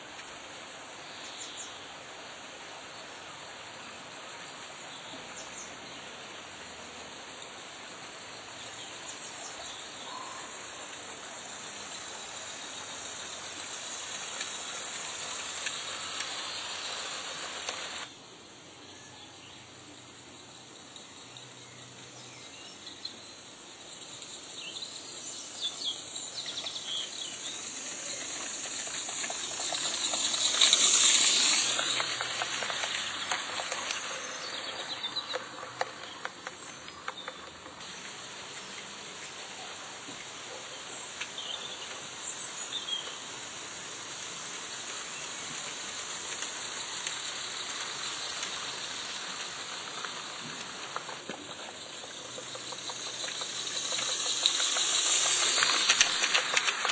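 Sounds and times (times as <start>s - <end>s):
steam locomotive hissing: 0.0s - 18.1s, 23.4s - 56.9s.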